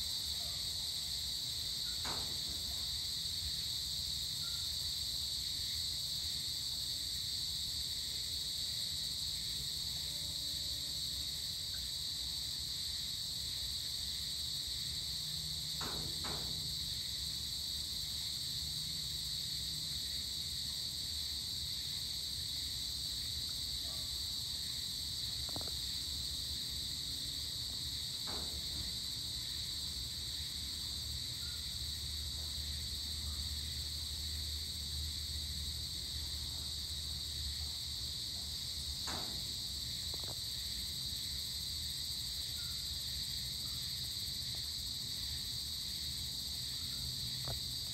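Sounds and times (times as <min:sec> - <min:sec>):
crickets chirring: 0:00.0 - 0:47.9.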